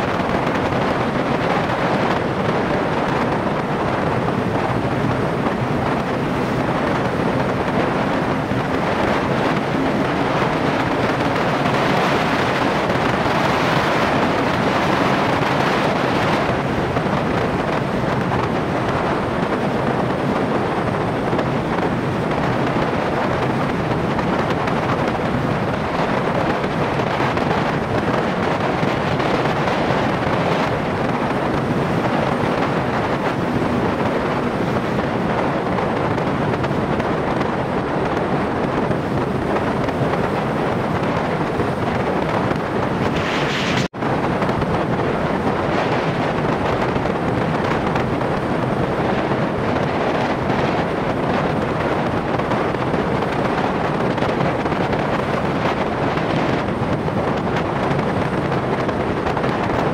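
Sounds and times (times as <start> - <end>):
road noise: 0.0 - 59.9
wind rushing on microphone: 0.0 - 59.9.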